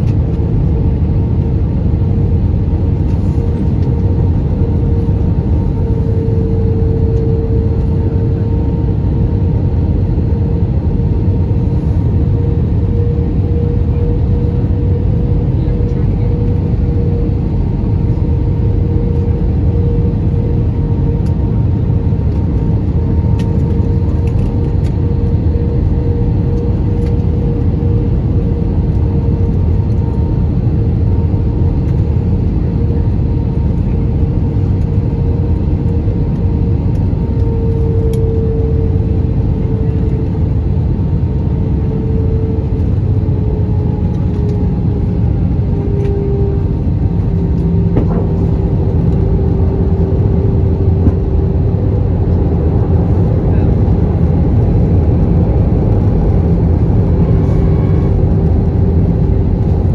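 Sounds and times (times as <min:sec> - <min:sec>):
humming tone: 0:00.0 - 0:59.9
jet engines and airflow rushing: 0:00.0 - 0:59.9.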